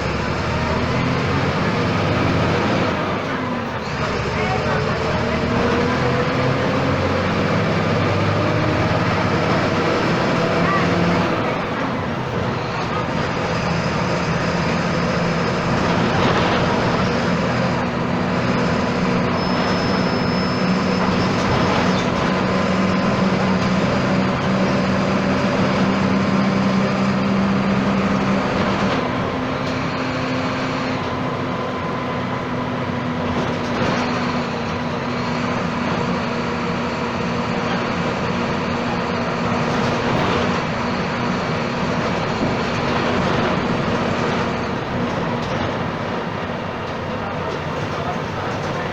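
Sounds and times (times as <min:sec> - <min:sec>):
bus diesel engine drone: 0:00.0 - 0:48.9
road noise: 0:00.0 - 0:48.9.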